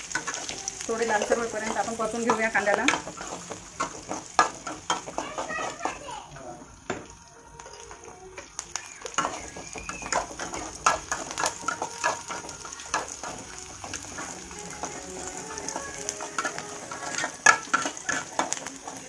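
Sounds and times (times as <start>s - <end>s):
metal spoon scraping and clinking pan: 0.0s - 5.8s, 7.6s - 19.0s
onions sizzling in hot oil: 0.0s - 19.0s.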